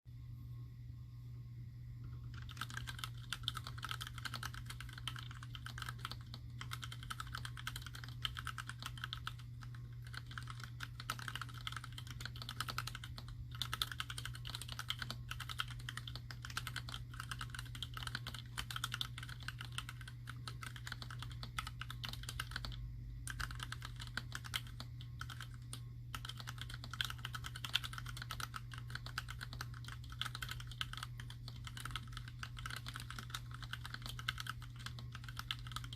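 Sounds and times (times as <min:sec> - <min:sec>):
fast typing on mechanical keyboard: 0:02.2 - 0:35.9.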